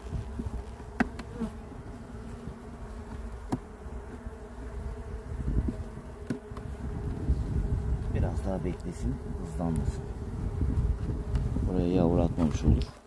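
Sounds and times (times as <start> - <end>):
bees humming: 0.0 - 13.0.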